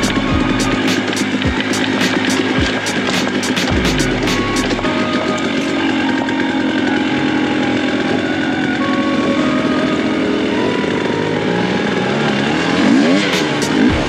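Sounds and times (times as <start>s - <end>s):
dirt bike engine revving high: 0.0s - 14.0s.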